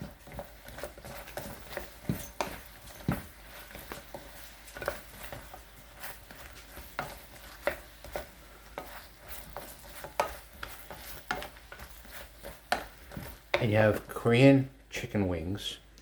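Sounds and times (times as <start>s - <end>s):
utensil clicking and scraping pan: 0.0s - 14.1s
wings stirred in thick sauce: 0.0s - 14.2s.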